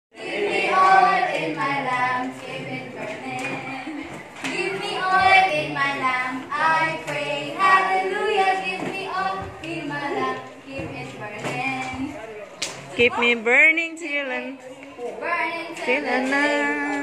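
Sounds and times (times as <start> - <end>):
group singing without instruments: 0.1 - 12.3, 15.0 - 17.0.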